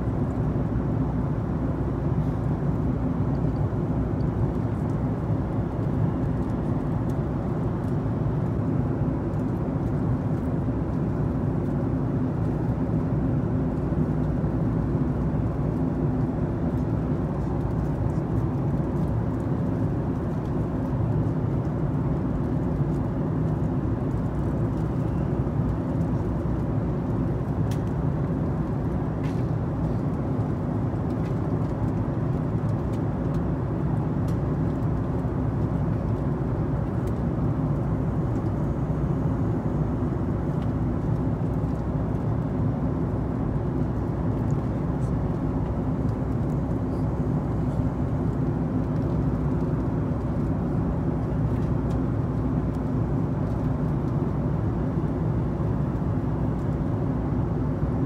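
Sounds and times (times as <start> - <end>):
airplane cabin engine hum: 0.0 - 58.0.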